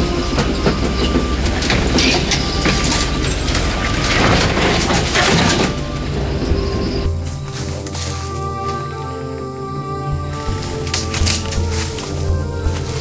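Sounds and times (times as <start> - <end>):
truck body rattling: 0.0 - 8.8, 10.1 - 13.0
low engine drone: 0.0 - 13.0.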